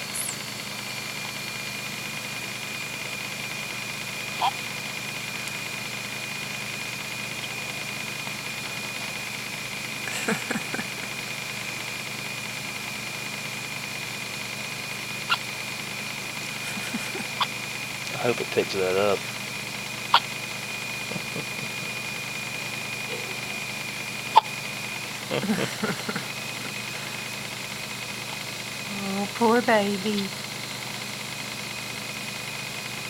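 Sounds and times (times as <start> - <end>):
steady high background whine: 0.0 - 33.0.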